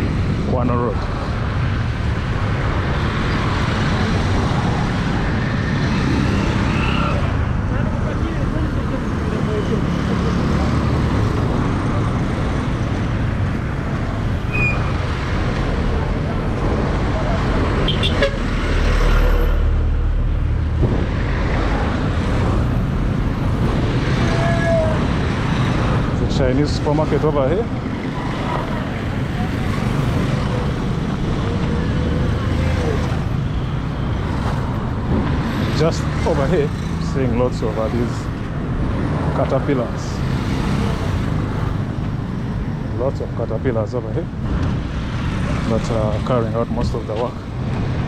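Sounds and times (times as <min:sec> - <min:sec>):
cars passing: 0:00.0 - 0:48.0
steady road traffic: 0:00.0 - 0:48.0
vehicle engines running: 0:00.0 - 0:48.0.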